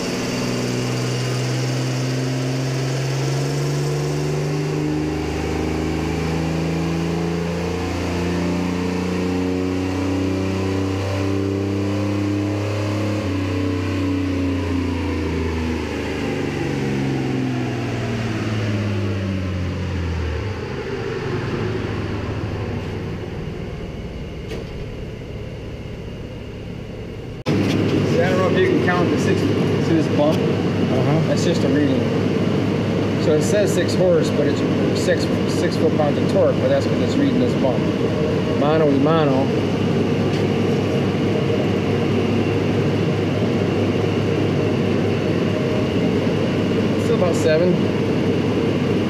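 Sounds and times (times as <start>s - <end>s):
engine revving on dynamometer: 0.0s - 49.0s.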